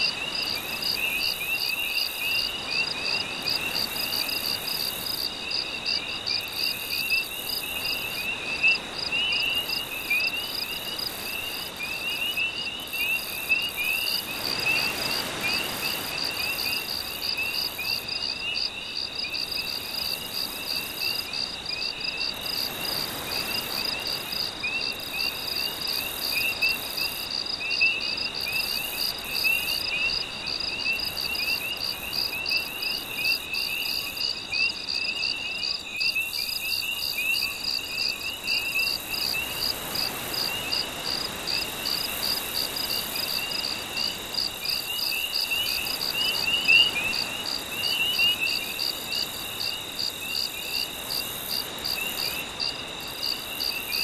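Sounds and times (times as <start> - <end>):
gentle sea waves: 0.0 - 34.9, 37.0 - 54.0
insects and frogs trilling: 0.0 - 54.0.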